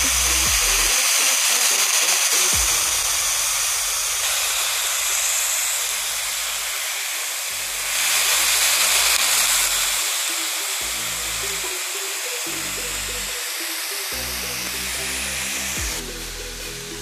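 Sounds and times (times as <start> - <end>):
steam hissing and sizzling: 0.0 - 17.0.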